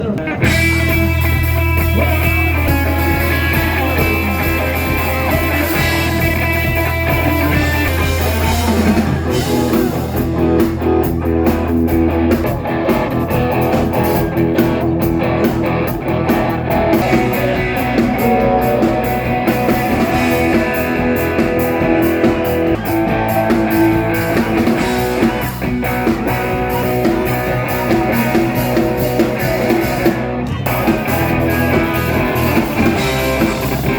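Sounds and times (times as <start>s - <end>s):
bass line: 0.0s - 33.9s
live rock band playing: 0.0s - 33.9s.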